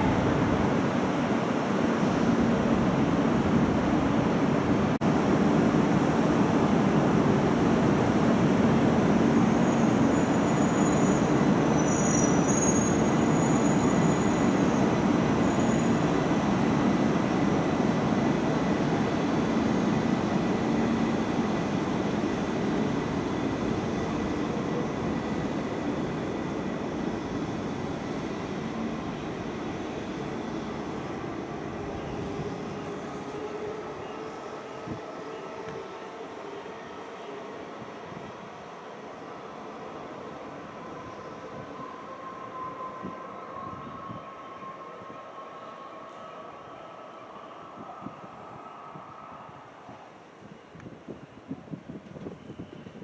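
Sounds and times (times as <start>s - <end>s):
train rushing rumble: 0.0s - 50.6s.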